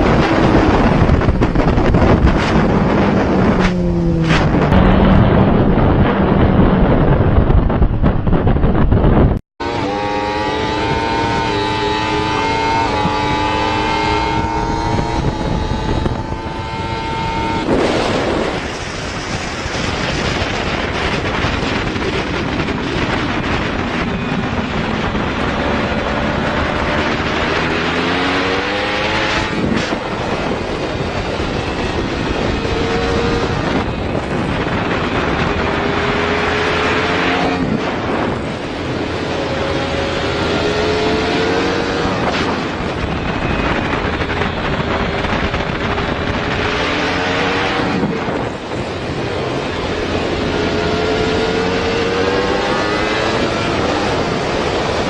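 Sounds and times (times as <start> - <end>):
motorcycle engine shifting gears: 0.0 - 55.0
wind noise on microphone: 0.0 - 55.0.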